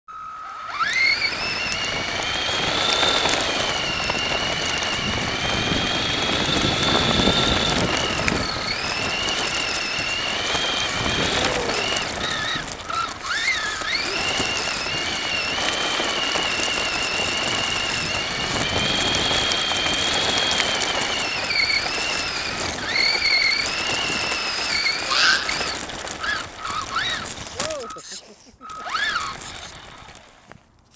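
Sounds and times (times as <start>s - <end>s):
toy car motor whining: 0.1s - 30.9s
rough rumble: 0.8s - 30.9s.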